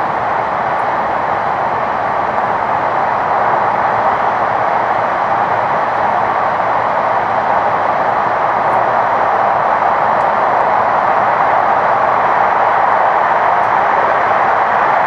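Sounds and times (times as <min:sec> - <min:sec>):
train running noise from inside: 0:00.0 - 0:15.0.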